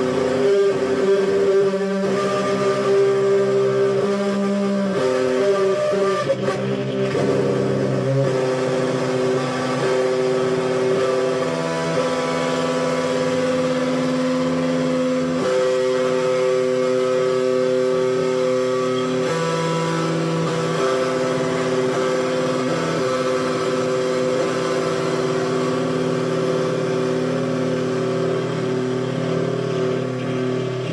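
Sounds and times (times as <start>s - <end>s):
electric guitar strumming chords: 0.0s - 30.9s.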